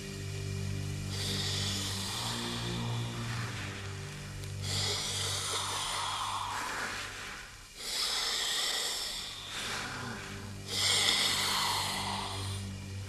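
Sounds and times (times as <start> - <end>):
low steady drone: 0.0 - 13.0
man breathing through a mask: 1.0 - 13.0.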